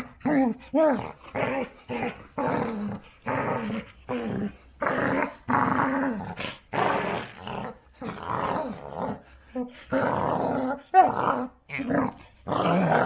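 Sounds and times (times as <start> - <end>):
dogs growling and snarling: 0.0 - 13.0.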